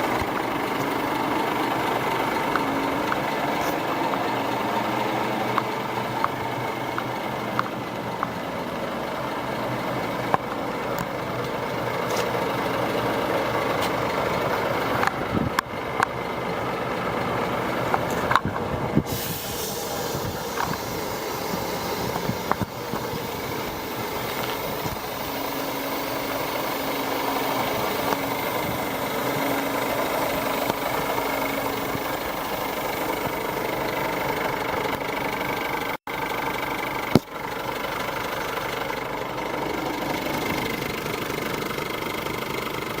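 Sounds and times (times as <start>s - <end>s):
diesel truck engine idling: 0.0s - 43.0s.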